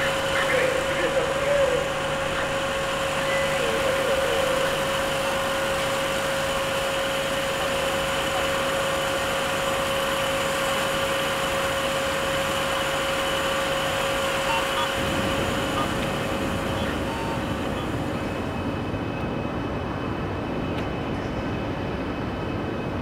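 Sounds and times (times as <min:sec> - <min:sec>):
industrial machinery hum: 0:00.0 - 0:23.0
mid-pitched machine whine: 0:00.0 - 0:23.0.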